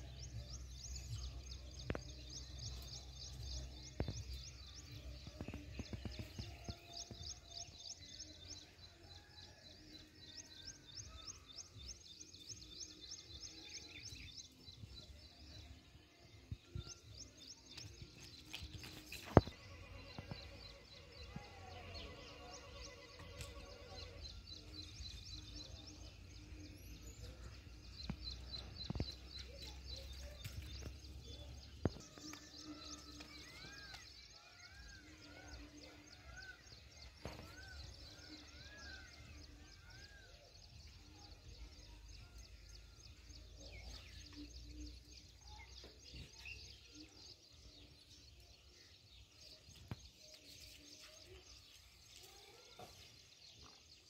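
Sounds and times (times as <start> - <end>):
birds chirping: 0.0 - 9.4, 10.3 - 54.0.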